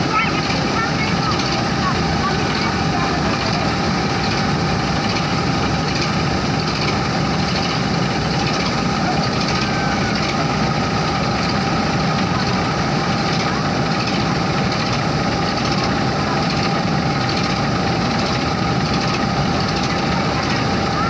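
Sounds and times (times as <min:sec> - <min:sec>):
combine harvester engine and auger: 0:00.0 - 0:21.0.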